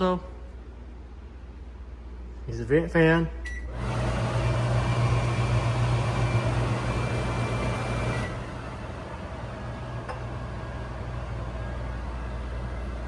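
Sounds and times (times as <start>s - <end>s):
microwave vent fan humming: 0.0s - 13.0s.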